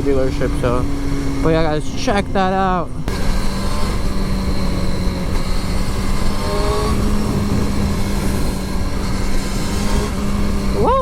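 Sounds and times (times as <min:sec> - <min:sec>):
motorcycle engine cruising: 0:00.0 - 0:11.0
wind rushing on microphone: 0:00.0 - 0:11.0.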